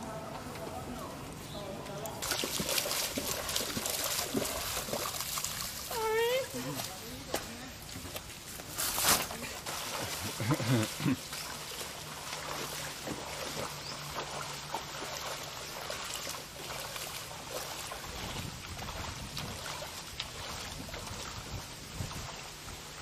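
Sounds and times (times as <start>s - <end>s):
floodwater rushing and splashing: 0.0s - 23.0s.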